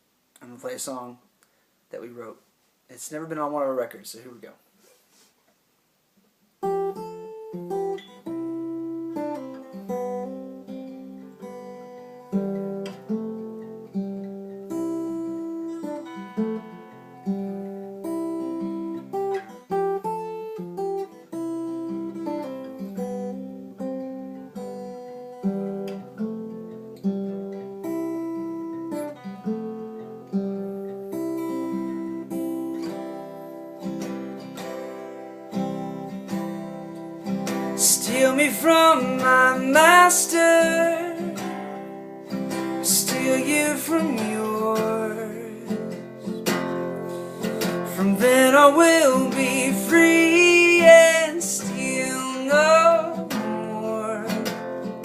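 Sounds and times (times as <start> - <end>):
acoustic guitar strumming chords: 6.6 - 55.0.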